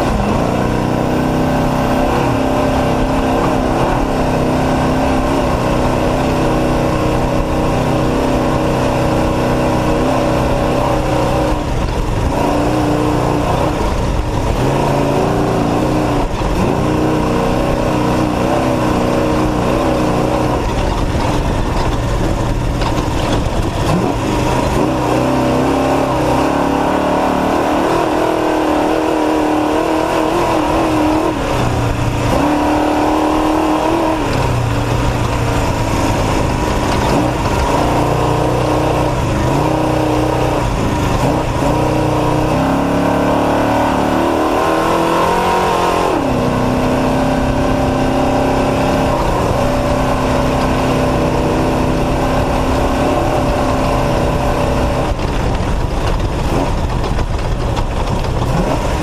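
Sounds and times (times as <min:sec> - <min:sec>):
truck engine running hard: 0:00.0 - 0:59.0.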